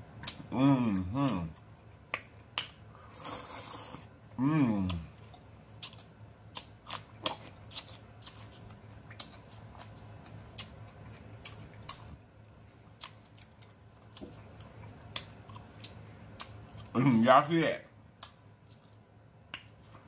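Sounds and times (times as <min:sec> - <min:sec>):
faint low hum: 0:00.0 - 0:20.0
lip-smacking and chewing: 0:00.2 - 0:03.9, 0:04.9 - 0:17.0, 0:18.2 - 0:20.0.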